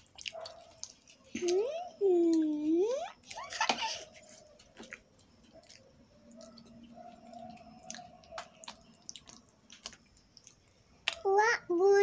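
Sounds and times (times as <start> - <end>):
chewing and mouth noises: 0.0 - 11.3.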